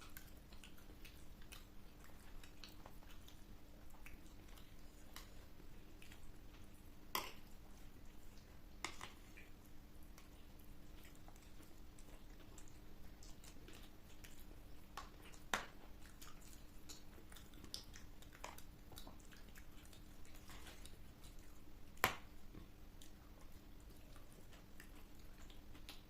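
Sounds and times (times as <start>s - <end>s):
people chewing and crunching: 0.0s - 26.0s.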